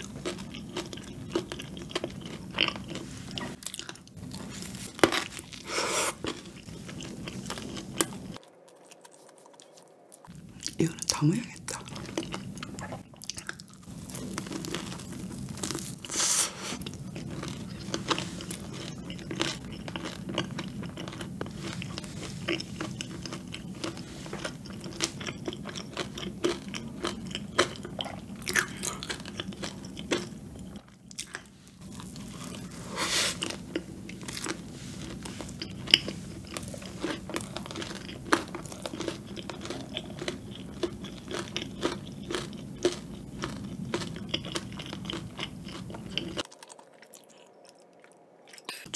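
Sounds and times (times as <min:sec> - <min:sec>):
biting and chewing donut: 0:00.0 - 0:48.9.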